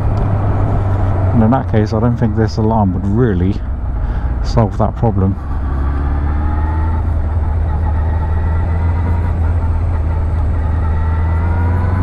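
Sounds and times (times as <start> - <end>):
heavy low rumble: 0.0 - 11.8
motorcycle engine running: 0.0 - 12.0.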